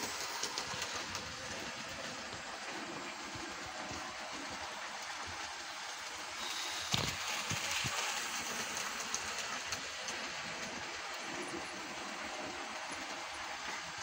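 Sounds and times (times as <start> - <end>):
model train wagons rolling: 0.0 - 14.0.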